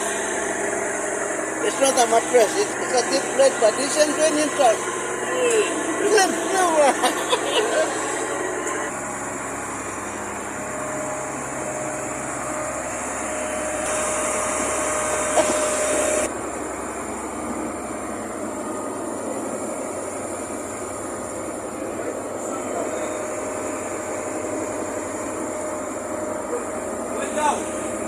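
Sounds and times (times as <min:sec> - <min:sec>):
ship engine drone: 0:00.0 - 0:28.0.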